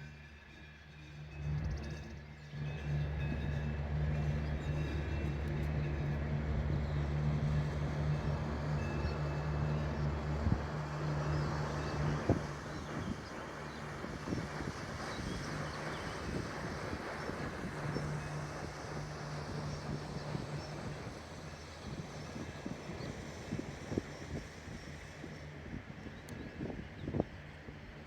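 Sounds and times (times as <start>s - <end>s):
cable car humming: 0.0s - 28.0s.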